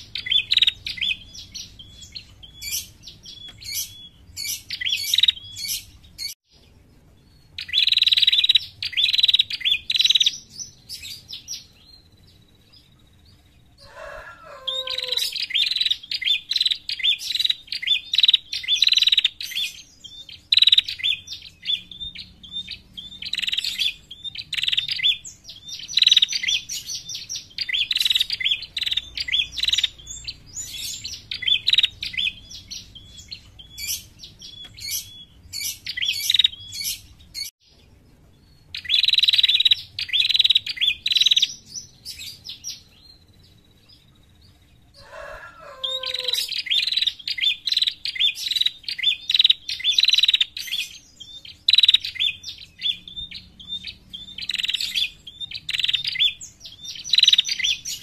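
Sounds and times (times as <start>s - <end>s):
bird chirping rapidly: 0.0s - 44.4s, 45.0s - 58.0s.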